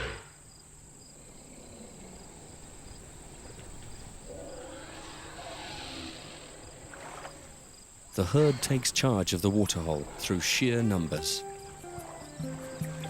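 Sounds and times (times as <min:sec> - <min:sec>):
faint insect chirping: 0:00.0 - 0:13.0
outdoor background noise: 0:00.0 - 0:13.0.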